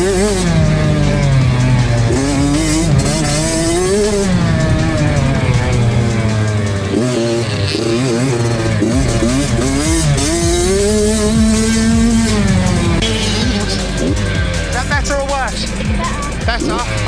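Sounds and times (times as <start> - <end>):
two-stroke motocross bike engine revving: 0.0 - 17.0.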